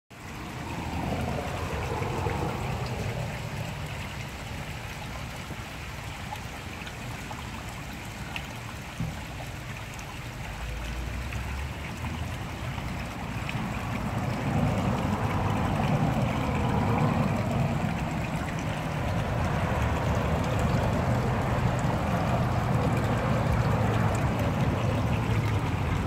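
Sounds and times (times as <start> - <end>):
running water: 0.1 - 26.0.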